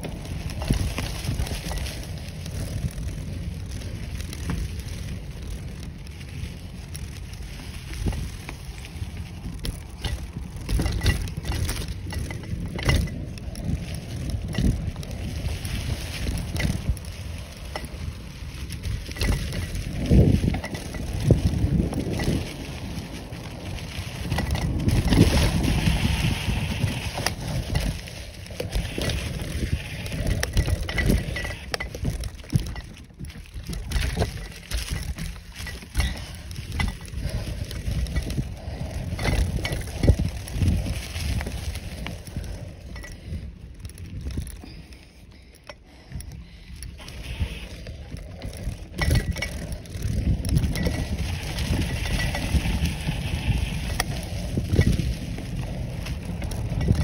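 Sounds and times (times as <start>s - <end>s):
bike clicks and rattles: 0.0s - 57.0s
bike tyres rumbling over dirt: 0.0s - 57.0s.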